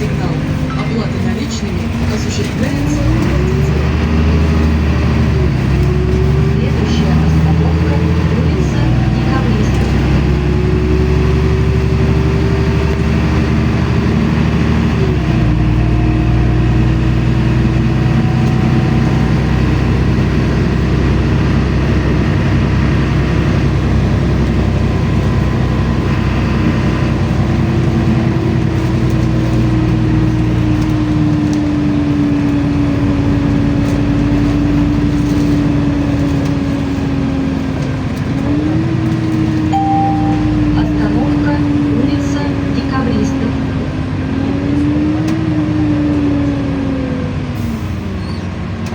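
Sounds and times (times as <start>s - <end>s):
bus engine rumble: 0.0s - 48.9s.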